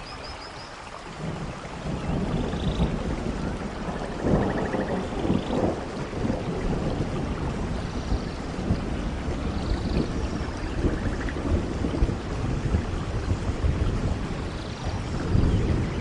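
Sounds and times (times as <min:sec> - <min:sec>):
rain on leaves: 0:00.0 - 0:16.0
thunder rumbling: 0:01.2 - 0:16.0.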